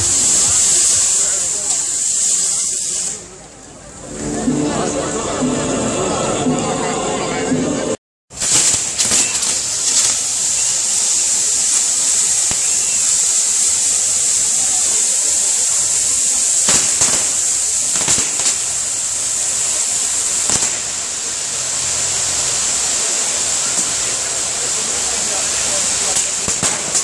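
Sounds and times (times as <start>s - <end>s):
firework cracks: 0.0s - 3.5s, 8.3s - 27.0s
fireworks hissing: 0.0s - 7.2s, 8.3s - 27.0s.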